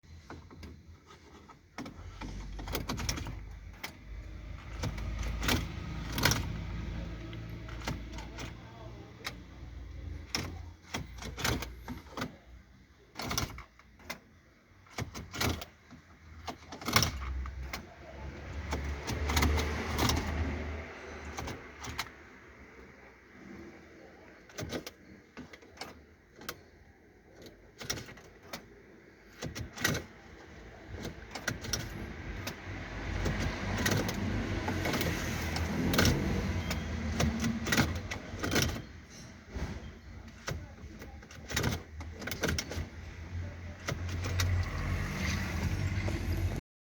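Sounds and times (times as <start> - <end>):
irregular clicks and knocks: 0.1 - 22.4, 24.3 - 45.9.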